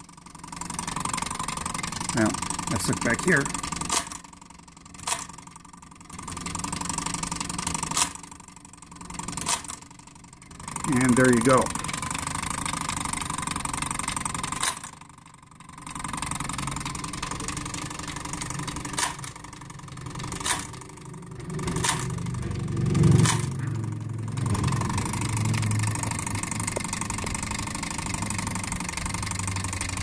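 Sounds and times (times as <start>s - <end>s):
fire alarm mechanism whirring: 0.0s - 30.0s
sharp mechanical clicks: 0.0s - 30.0s.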